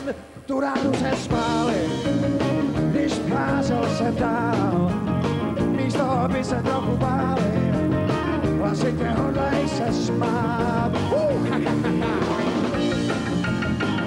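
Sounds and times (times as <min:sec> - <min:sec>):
man singing: 0:00.0 - 0:12.9
drum kit: 0:00.0 - 0:14.0
electric guitars: 0:00.3 - 0:14.0
piano: 0:00.7 - 0:14.0.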